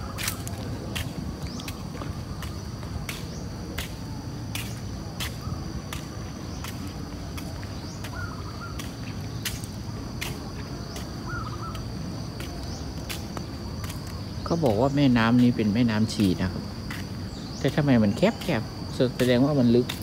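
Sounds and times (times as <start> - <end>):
footsteps on concrete: 0.0 - 20.0
insects droning: 0.0 - 20.0.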